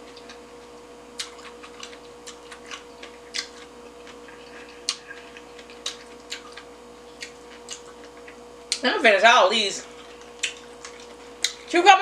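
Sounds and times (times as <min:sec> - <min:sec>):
person chewing: 0:00.0 - 0:08.8, 0:09.8 - 0:11.8
faint steady hum: 0:00.0 - 0:12.0.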